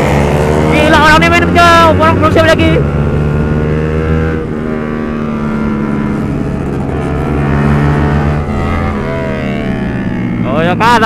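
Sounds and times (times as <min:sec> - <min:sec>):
motorcycle engine running hard: 0:00.0 - 0:11.0.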